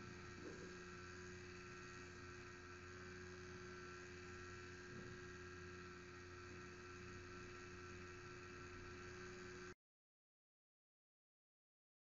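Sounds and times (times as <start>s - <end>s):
low electrical hum: 0.0s - 9.8s.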